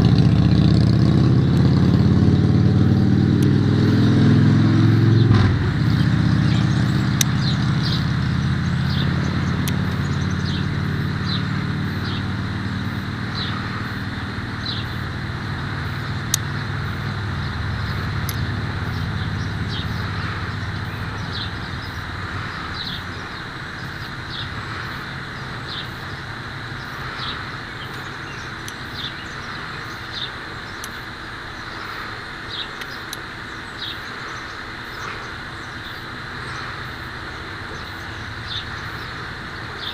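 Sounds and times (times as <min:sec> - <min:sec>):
vehicle engine rumbling: 0:00.0 - 0:39.9
steady hiss: 0:02.8 - 0:39.9.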